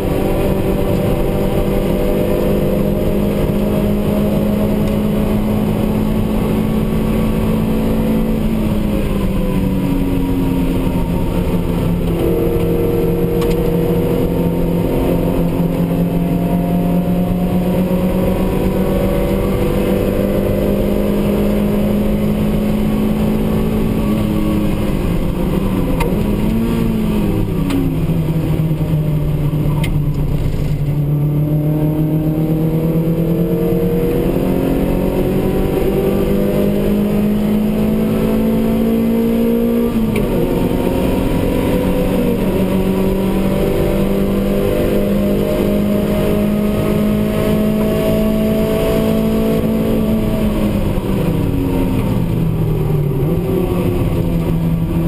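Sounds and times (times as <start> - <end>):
racing car engine accelerating: 0.0 - 55.0.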